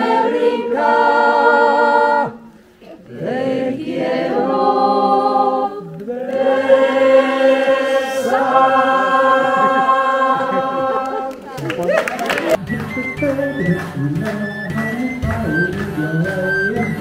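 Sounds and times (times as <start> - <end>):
group singing unaccompanied: 0.0 - 11.4, 12.7 - 17.0.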